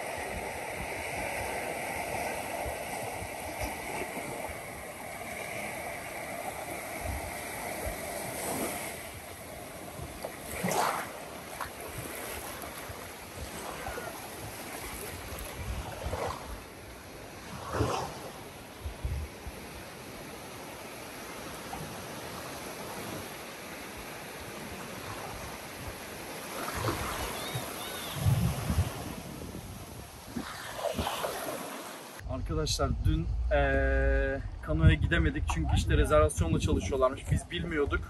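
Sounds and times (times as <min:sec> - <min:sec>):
surf washing onto beach: 0:00.0 - 0:32.2
wind: 0:00.0 - 0:38.0.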